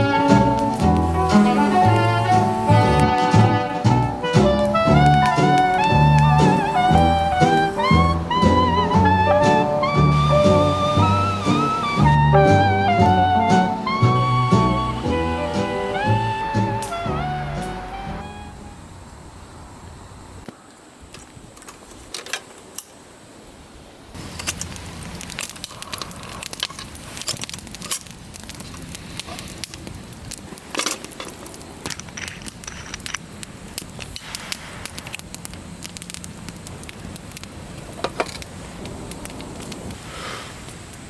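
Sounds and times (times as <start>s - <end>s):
firewood popping: 0.0s - 17.9s, 24.2s - 41.0s
wood fire crackling: 0.0s - 41.0s.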